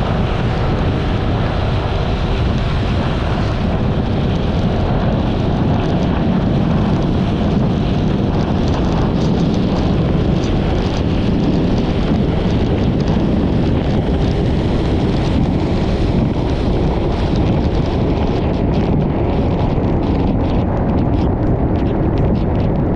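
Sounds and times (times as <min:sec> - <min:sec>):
road noise: 0:00.0 - 0:22.9
wind rushing on microphone: 0:00.0 - 0:22.9.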